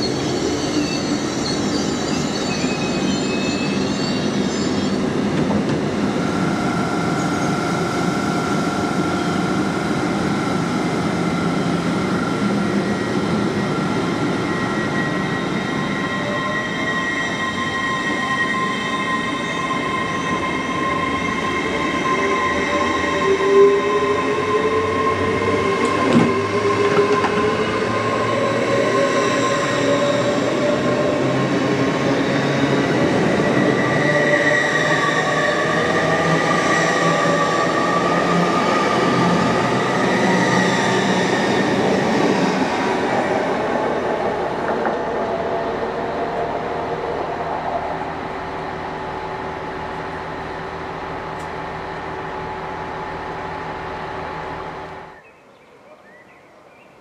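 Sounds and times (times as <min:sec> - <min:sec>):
train whine: 0:00.0 - 0:55.3.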